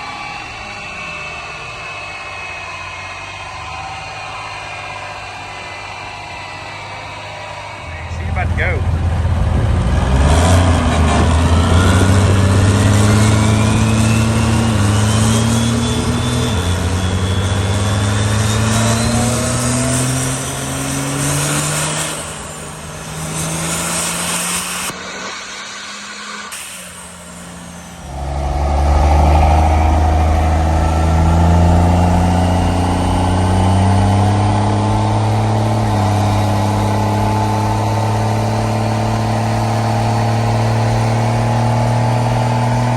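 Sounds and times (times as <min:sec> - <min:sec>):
rising whistle: 0:00.0 - 0:42.9
truck engine at full throttle: 0:00.0 - 0:42.9.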